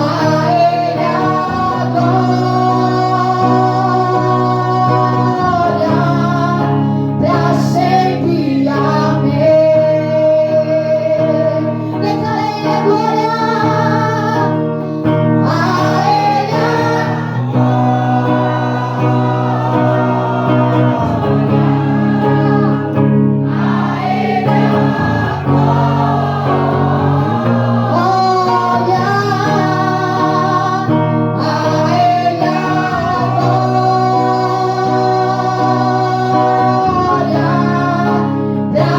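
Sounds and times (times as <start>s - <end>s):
gospel singing over held chords: 0.0s - 38.9s.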